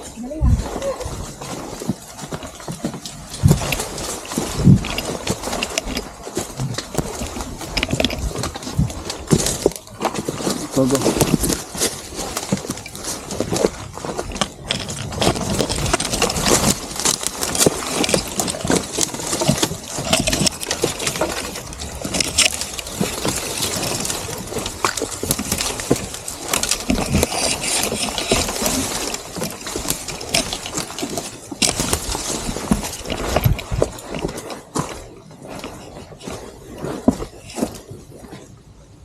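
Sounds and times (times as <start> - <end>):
gear rustling and knocking: 0.0 - 38.6
footsteps crunching on trail: 0.0 - 38.8.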